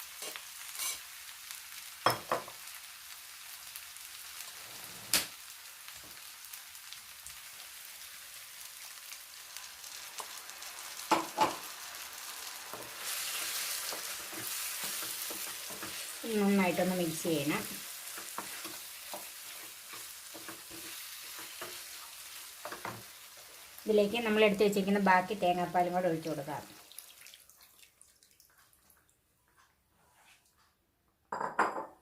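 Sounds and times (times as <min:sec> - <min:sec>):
curry sizzling in a pan: 0:00.0 - 0:28.8.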